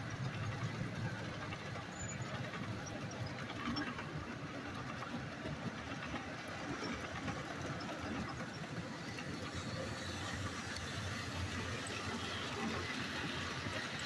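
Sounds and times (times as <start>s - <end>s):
model train wheels rolling: 0.0s - 14.0s.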